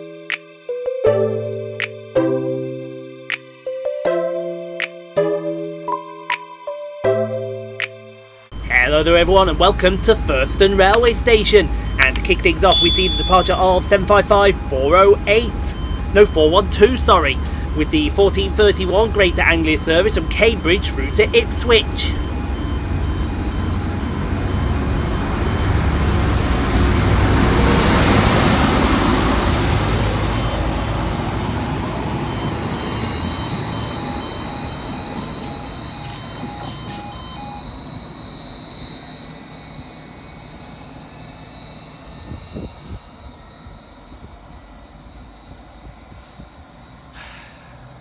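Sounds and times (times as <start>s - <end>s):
steady high tone: 7.2s - 48.0s
rising whine: 8.5s - 48.0s
train pulling away: 8.5s - 48.0s.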